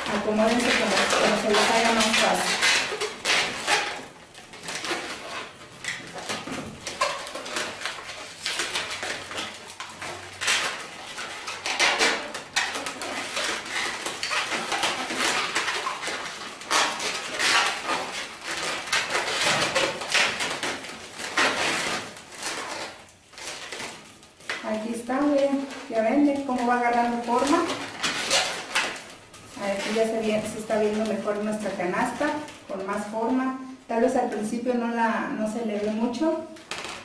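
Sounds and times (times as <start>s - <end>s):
balloons squeaking and rubbing: 0.0s - 33.8s, 36.3s - 37.0s.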